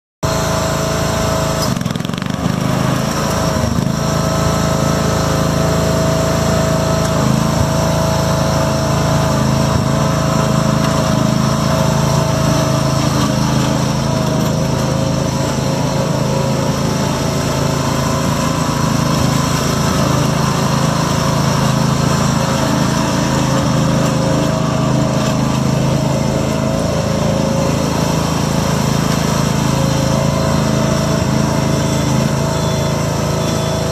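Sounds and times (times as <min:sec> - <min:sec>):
lawn tractor engine running: 0:00.2 - 0:33.9.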